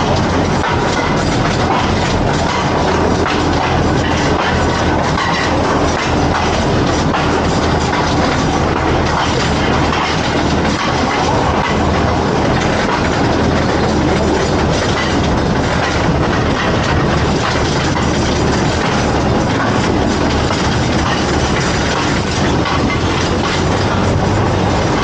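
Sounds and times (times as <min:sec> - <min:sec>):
train rumbling on track: 0:00.0 - 0:25.0
wheels clattering on rails: 0:00.0 - 0:25.0.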